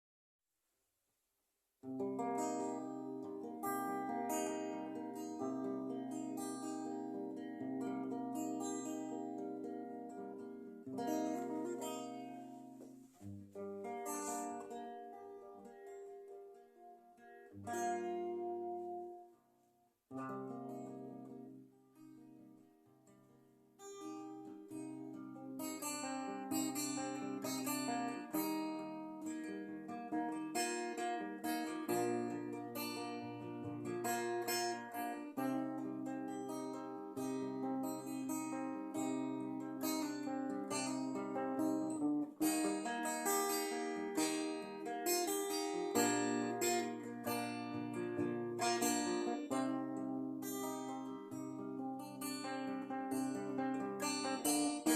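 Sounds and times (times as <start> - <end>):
acoustic guitar strumming chords: 1.8 - 19.4, 23.8 - 54.9.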